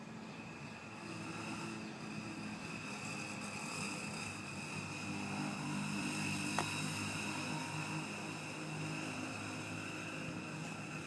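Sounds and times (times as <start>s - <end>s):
distant engine drone: 0.0s - 11.0s
steady high whine: 0.0s - 11.0s.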